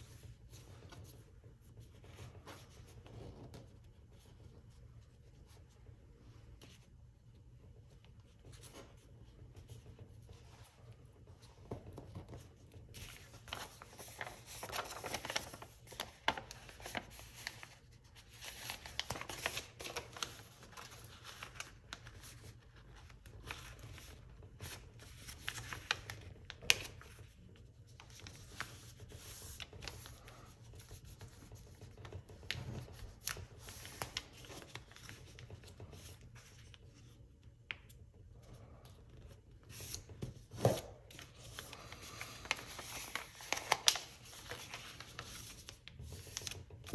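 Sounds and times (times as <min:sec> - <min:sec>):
paper rustling and crackling: 0:08.0 - 0:46.9.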